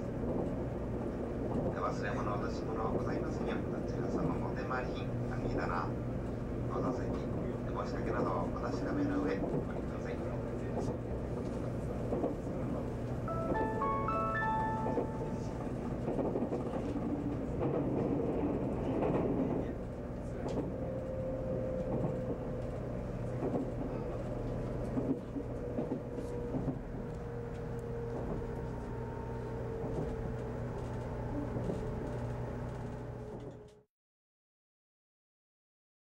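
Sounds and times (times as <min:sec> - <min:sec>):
train cabin rumble: 0:00.0 - 0:33.8.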